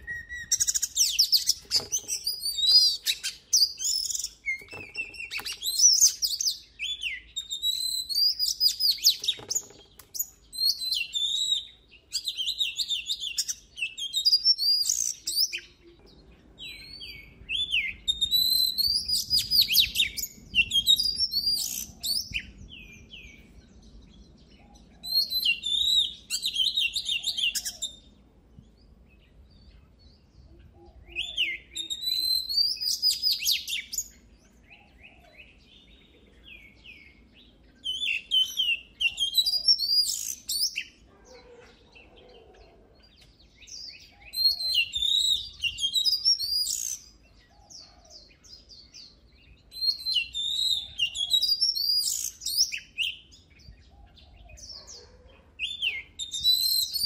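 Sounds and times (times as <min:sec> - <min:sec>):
magpie-robin whistled song: 0:00.0 - 0:42.4, 0:43.0 - 0:57.0.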